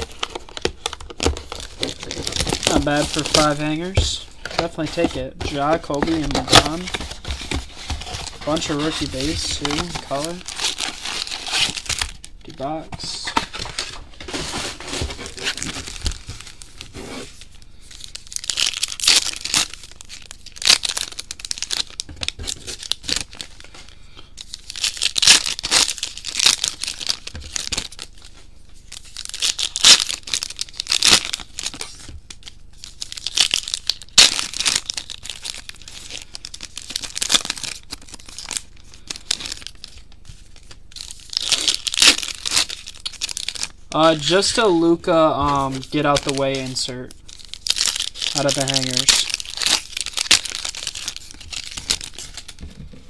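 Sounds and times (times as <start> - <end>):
packs tearing and crinkling: 0.0 - 52.8.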